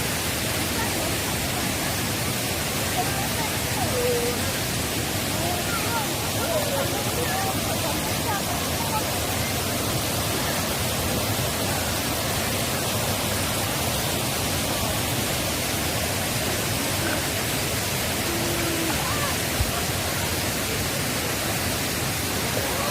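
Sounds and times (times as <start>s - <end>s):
stream rushing: 0.0s - 22.9s.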